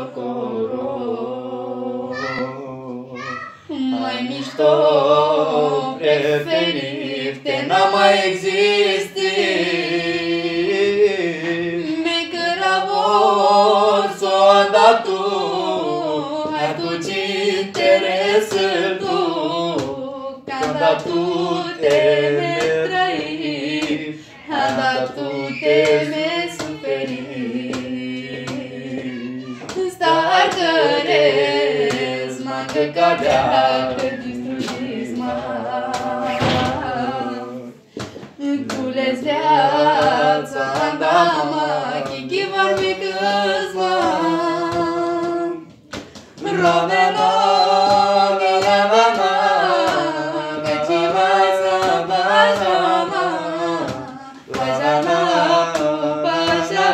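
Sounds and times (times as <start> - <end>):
unaccompanied group singing: 0.0 - 56.9.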